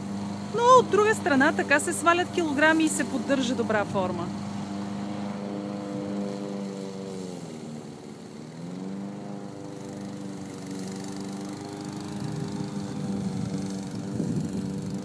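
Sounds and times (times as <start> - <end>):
lawn mower running: 0.0 - 15.0.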